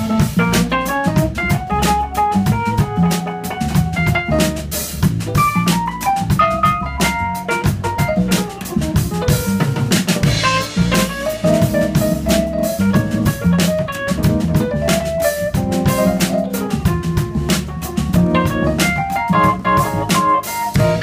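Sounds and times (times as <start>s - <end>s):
deep bass notes: 0.0s - 21.0s
drum kit beat: 0.0s - 21.0s
electric keyboard playing: 0.0s - 21.0s.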